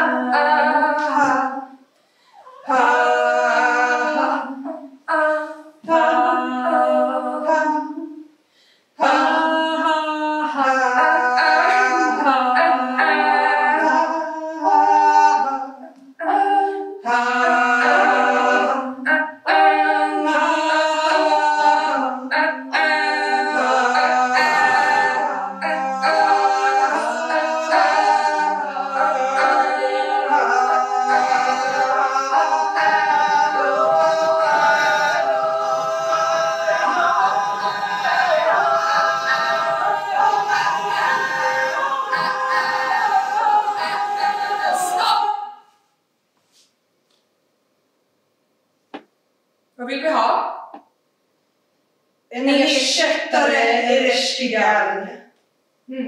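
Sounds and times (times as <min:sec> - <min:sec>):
unaccompanied singing voices: 0:00.0 - 0:08.3, 0:09.0 - 0:45.8.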